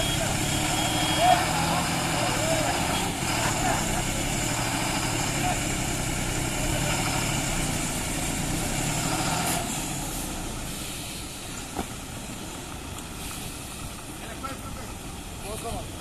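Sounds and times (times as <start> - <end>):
lorry diesel engine under load: 0.0 - 16.0.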